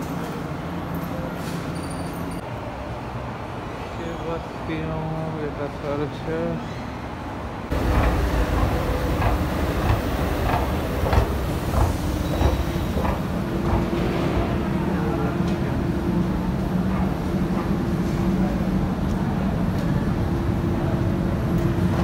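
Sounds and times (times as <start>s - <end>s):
train humming at platform: 0.0s - 22.0s.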